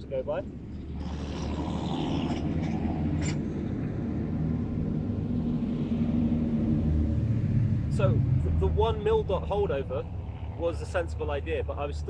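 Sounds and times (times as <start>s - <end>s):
passing vehicle engine: 0.5s - 12.0s.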